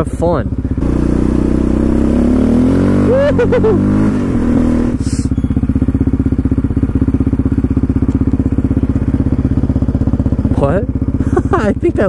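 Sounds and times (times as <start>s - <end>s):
quad engine idling: 0.0s - 12.0s.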